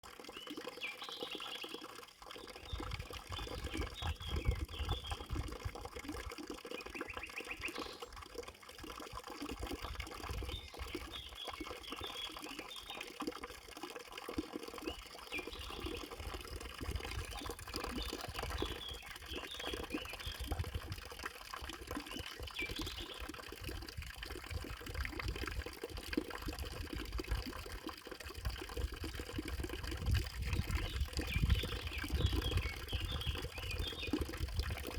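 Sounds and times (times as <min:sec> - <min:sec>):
trickling water: 0:00.0 - 0:34.9.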